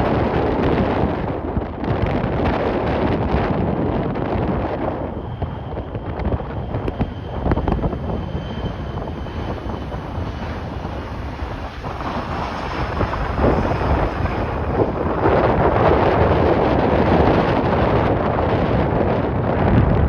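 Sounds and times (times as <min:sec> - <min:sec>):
gusty wind on microphone: 0:00.0 - 0:20.0.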